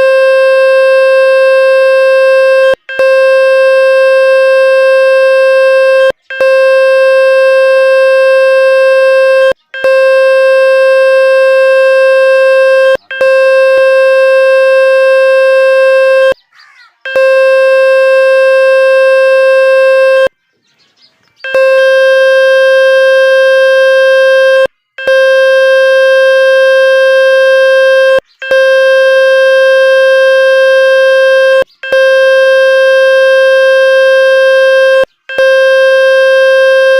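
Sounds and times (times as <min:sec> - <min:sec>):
buzzy electronic tone: 0:00.0 - 0:16.4, 0:17.1 - 0:20.3, 0:21.5 - 0:36.9.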